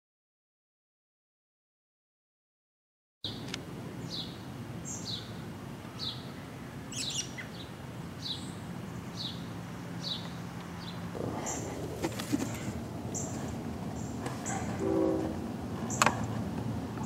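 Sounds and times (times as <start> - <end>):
low background hum: 3.3 - 17.0.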